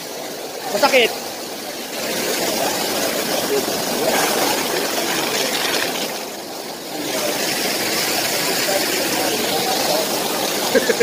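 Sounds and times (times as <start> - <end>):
waterfall spouts splashing into pool: 0.0 - 11.0.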